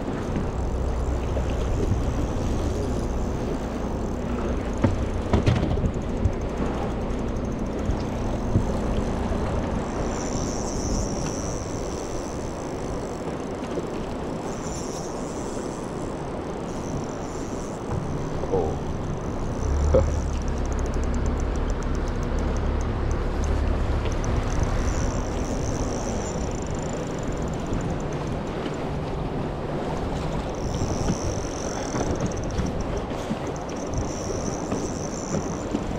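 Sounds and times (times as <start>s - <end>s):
boat motor running: 0.0s - 35.9s
water noise: 0.0s - 35.9s
wind: 0.0s - 35.9s.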